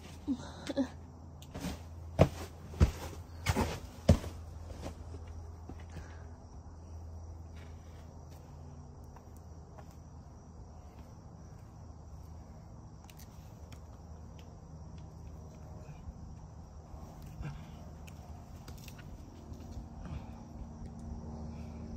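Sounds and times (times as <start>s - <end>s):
faint ticks and scuffs: 1.4s - 21.9s.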